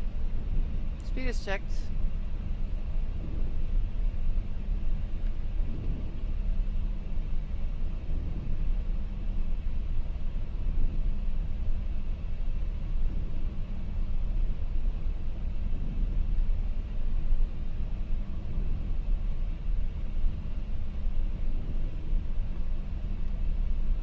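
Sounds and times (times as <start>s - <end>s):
deep wind noise: 0.0s - 24.0s.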